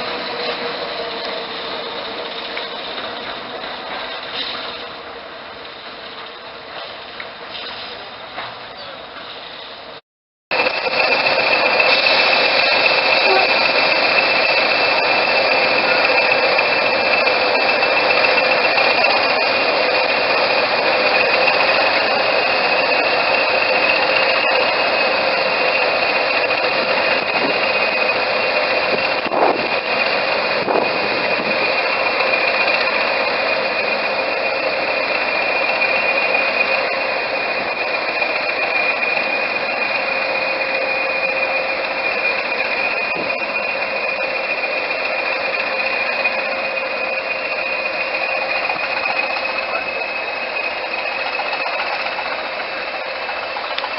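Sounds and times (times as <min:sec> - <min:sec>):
diesel train running: 0:00.0 - 0:53.9
high-pitched whine: 0:08.8 - 0:53.9.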